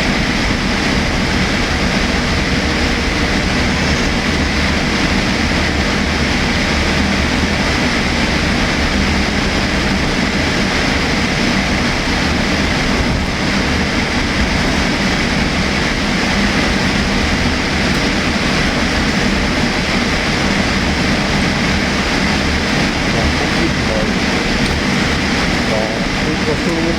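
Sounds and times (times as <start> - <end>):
jet engine drone in cabin: 0.0 - 26.9.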